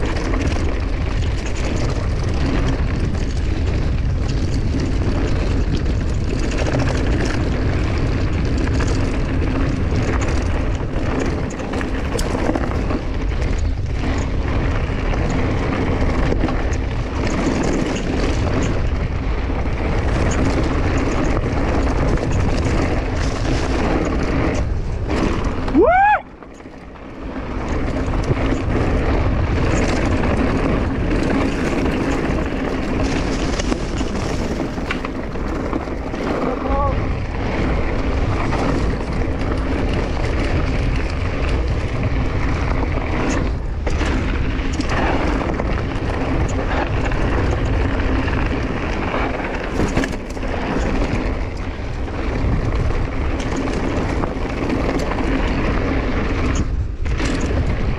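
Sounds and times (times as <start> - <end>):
bike rattling over rocks: 0.0 - 57.9
bike tyres rumbling on trail: 0.0 - 57.9
wind buffeting microphone: 0.0 - 57.9.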